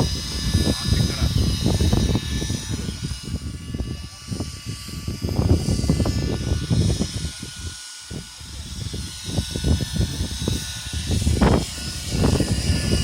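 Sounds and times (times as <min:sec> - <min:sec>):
model helicopter rotor whine: 0:00.0 - 0:13.0
wind buffeting microphone: 0:00.0 - 0:13.0.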